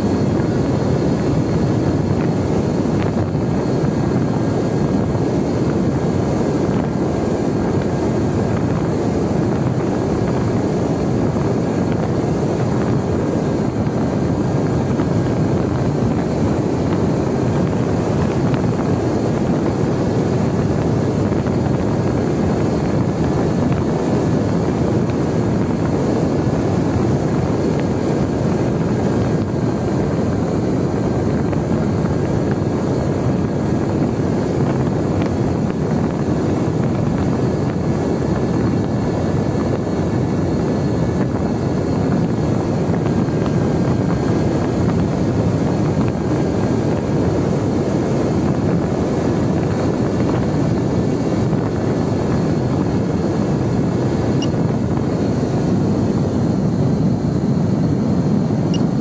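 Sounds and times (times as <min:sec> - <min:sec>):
faint high whine: 0:00.0 - 0:59.0
wind rushing over airframe: 0:00.0 - 0:59.0.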